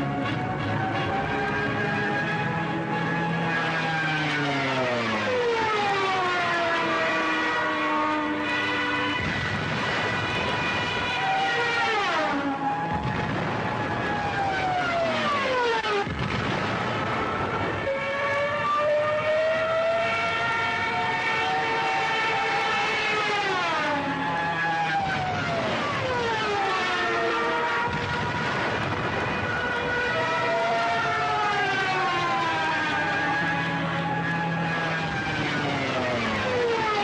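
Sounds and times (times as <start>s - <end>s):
aircraft engines droning past: 0.0s - 37.0s.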